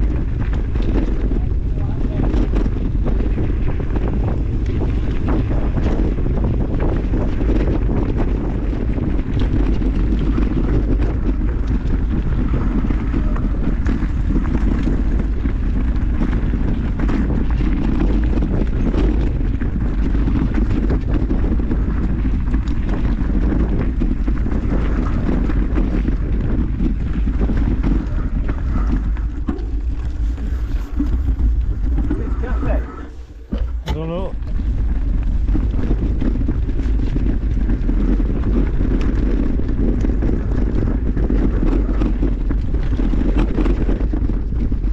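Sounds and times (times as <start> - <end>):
bike knocks and rattles: 0.0 - 44.9
wind rushing over microphone: 0.0 - 44.9.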